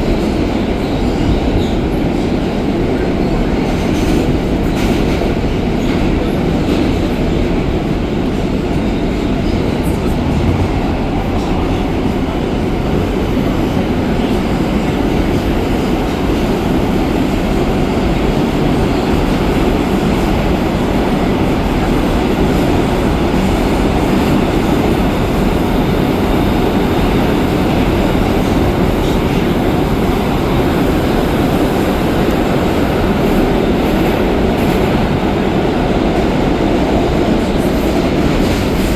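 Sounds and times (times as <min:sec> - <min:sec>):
subway car running at speed: 0:00.0 - 0:38.9.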